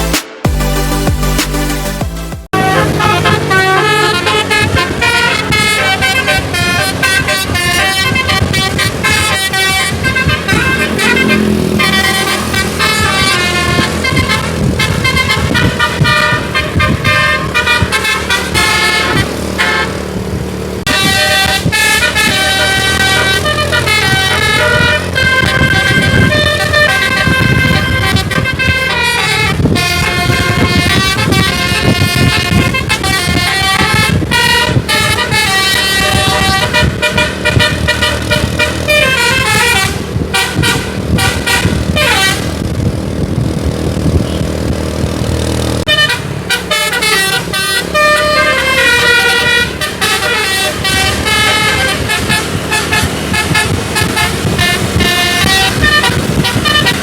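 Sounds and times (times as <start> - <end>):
bus engine rumble: 0.0 - 57.0
multi-tone musical air horn: 2.5 - 20.1, 20.8 - 42.8, 45.8 - 57.0.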